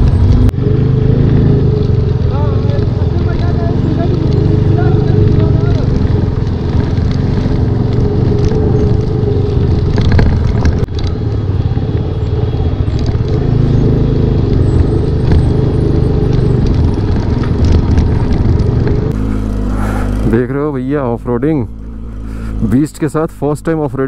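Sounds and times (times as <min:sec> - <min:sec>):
motorcycle engine running low: 0:00.0 - 0:24.0
motorcycle rattling: 0:00.0 - 0:24.0.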